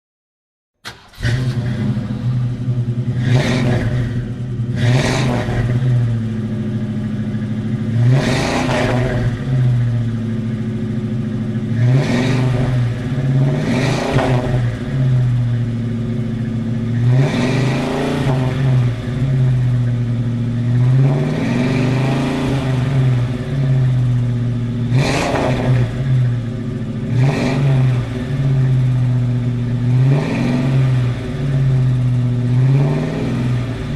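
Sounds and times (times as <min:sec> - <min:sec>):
car engine idling and revving: 0:00.8 - 0:33.9.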